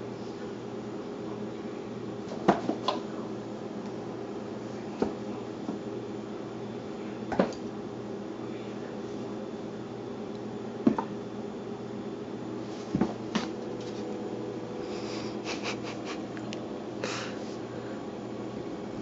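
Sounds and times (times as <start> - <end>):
low household hum: 0.0 - 19.0.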